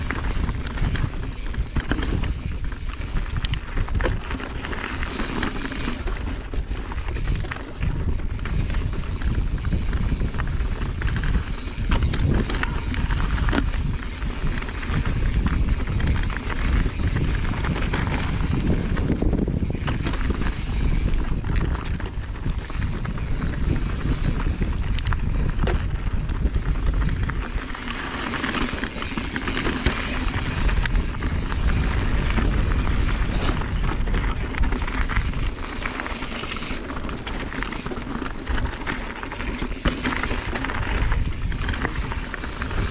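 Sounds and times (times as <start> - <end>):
bike clicks and rattles: 0.0 - 42.9
tyres crunching over gravel: 0.0 - 42.9
wind rumble on microphone: 0.0 - 42.9.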